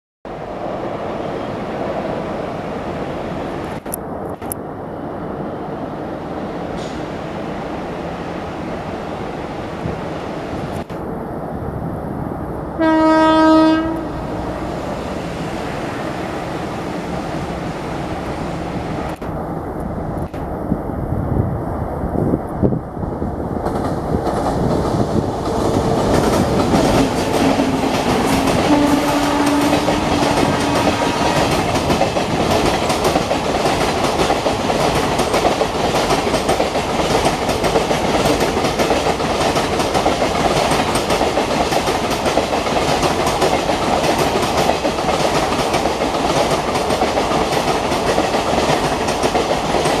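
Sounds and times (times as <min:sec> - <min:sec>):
passenger train passing: 0:00.3 - 0:50.0.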